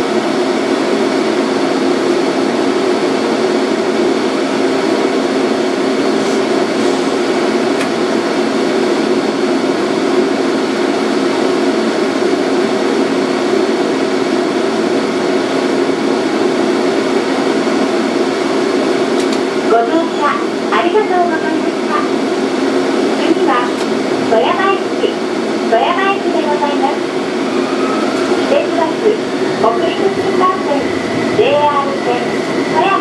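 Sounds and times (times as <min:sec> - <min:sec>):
tram equipment whirring hum: 0:00.0 - 0:33.0.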